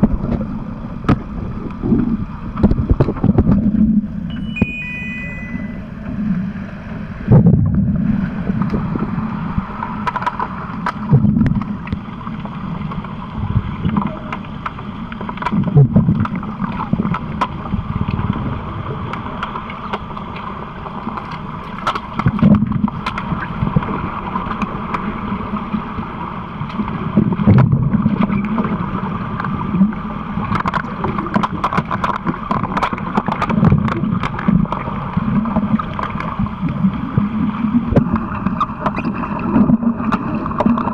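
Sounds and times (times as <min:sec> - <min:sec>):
muffled underwater rush: 0:00.0 - 0:04.5, 0:05.5 - 0:40.9.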